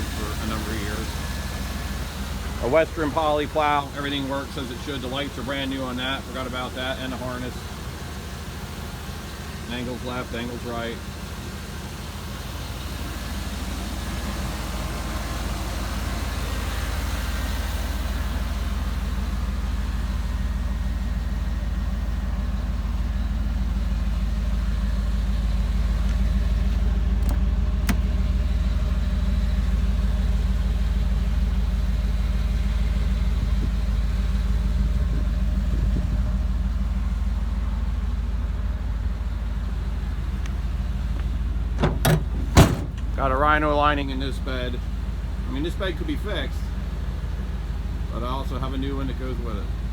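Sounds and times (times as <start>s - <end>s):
engine idling with low rumble: 0.0s - 49.9s.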